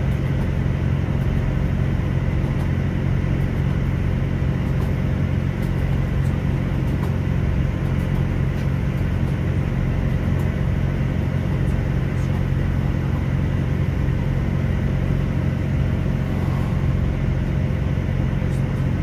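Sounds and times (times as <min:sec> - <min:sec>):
diesel engine hum: 0:00.0 - 0:19.0
train wheels rumbling: 0:00.0 - 0:19.0.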